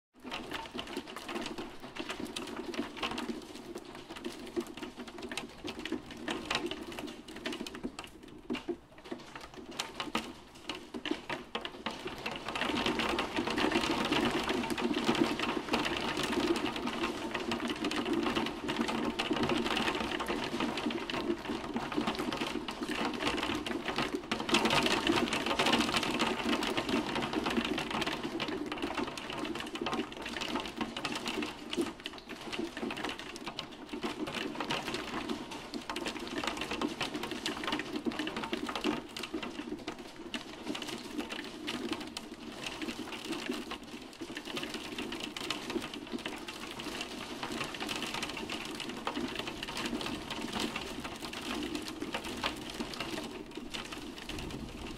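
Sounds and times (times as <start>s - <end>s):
hail ticking on window glass: 0.2s - 54.9s.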